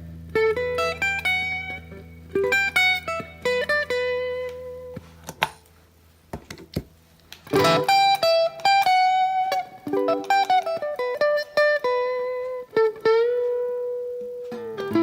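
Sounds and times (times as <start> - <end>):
electric guitar picked notes: 0.0 - 5.0, 7.4 - 15.0.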